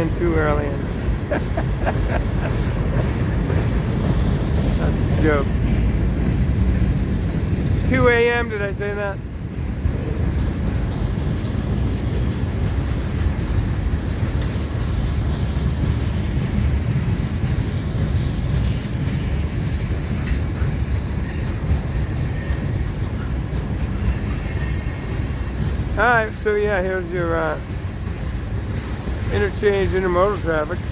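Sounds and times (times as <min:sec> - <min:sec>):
sharp clicks from train cars: 0:00.0 - 0:30.9
train wheels rumbling on rail: 0:00.0 - 0:30.9.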